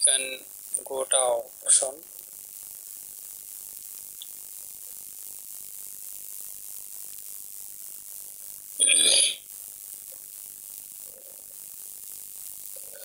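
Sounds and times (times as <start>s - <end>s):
microphone hiss: 0.0s - 13.0s.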